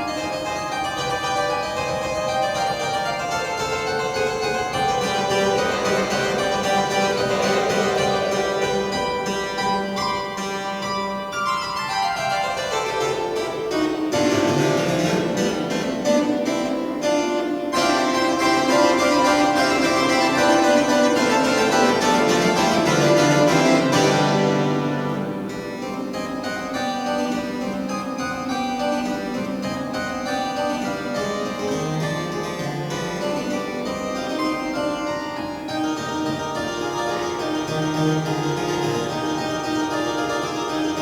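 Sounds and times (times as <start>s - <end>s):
pipe organ playing chords: 0.0s - 41.0s.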